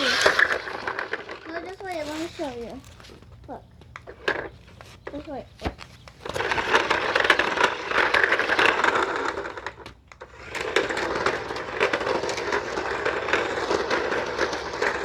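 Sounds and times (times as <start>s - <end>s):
toy car motor whirring: 0.0s - 15.0s.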